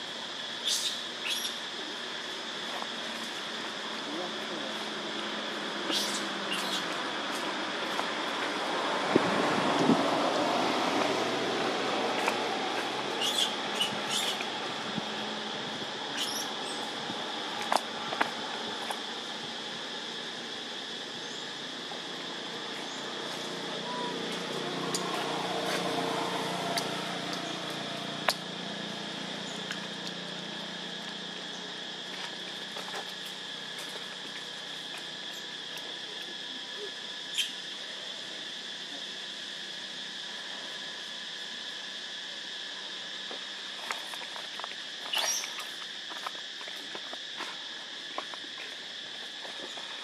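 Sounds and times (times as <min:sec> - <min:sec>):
insect chorus drone: 0:00.0 - 0:50.0.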